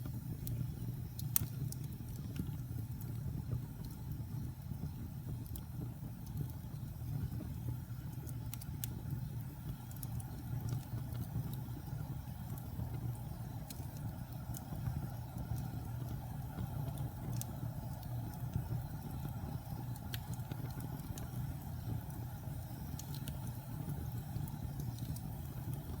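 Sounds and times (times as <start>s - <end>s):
burning logs crackling and popping: 0.0s - 26.0s
wood fire rumbling: 0.0s - 26.0s.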